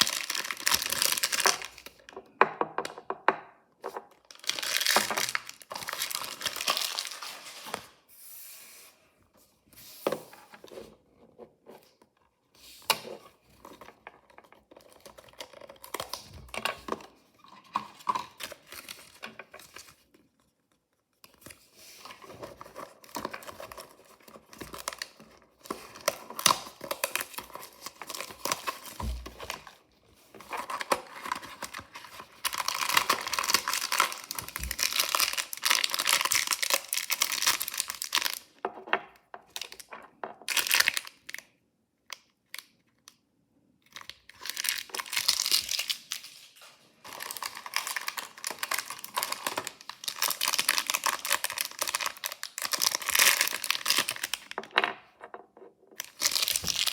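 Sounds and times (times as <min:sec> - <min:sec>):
packaging crinkling and tearing: 0:00.0 - 0:02.1, 0:04.0 - 0:08.0, 0:12.8 - 0:38.6, 0:39.5 - 0:41.5, 0:43.8 - 0:54.7, 0:56.0 - 0:56.9.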